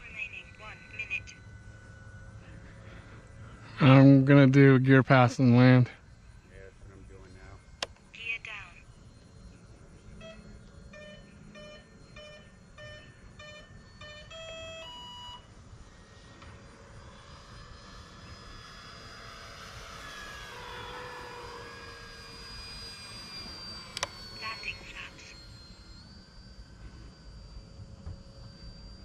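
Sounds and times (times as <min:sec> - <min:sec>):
electronic beeps: 0:00.0 - 0:02.6, 0:03.7 - 0:15.5, 0:19.6 - 0:29.0
model plane motor and propeller whine: 0:00.0 - 0:29.0.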